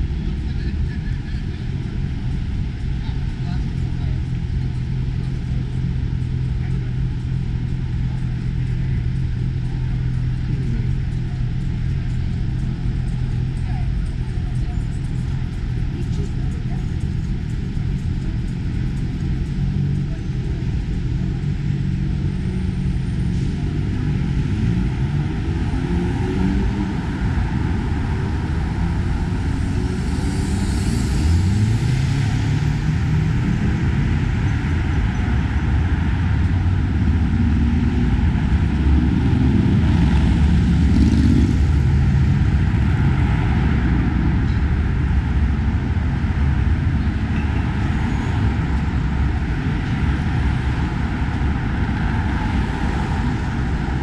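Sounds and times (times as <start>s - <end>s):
traffic engine rumble: 0.0s - 54.0s
vehicles pulling away: 0.0s - 54.0s.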